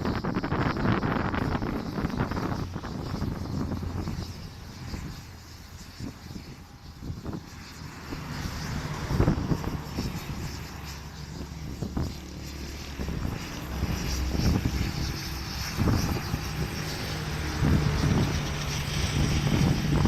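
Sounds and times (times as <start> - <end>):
aircraft engine hum: 0.0 - 20.0.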